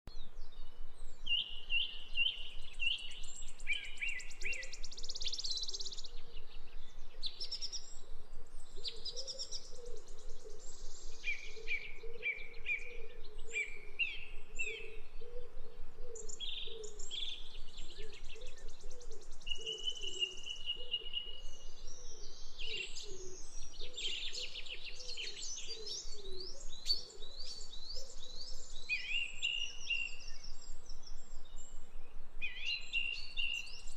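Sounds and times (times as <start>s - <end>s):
birds singing and chirping: 0.1s - 33.9s.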